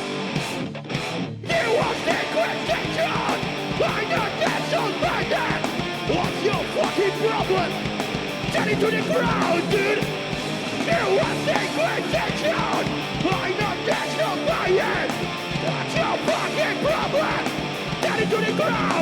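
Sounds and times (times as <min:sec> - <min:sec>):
heavy punk rock music: 0:00.0 - 0:19.0
shouted vocals: 0:01.5 - 0:19.0.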